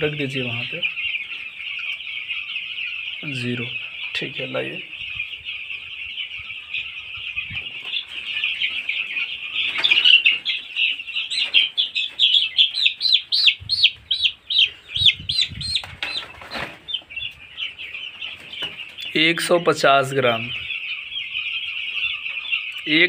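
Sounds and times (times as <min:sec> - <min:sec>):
chicks peeping: 0:00.0 - 0:23.0
loud falling peeps: 0:00.0 - 0:23.0.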